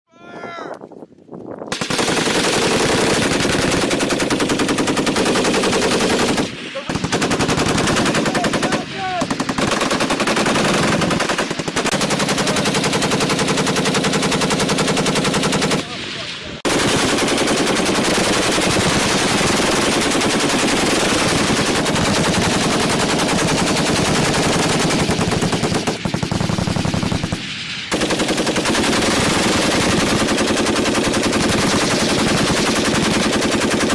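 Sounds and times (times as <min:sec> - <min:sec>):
machine guns firing automatic bursts: 0:01.7 - 0:33.9.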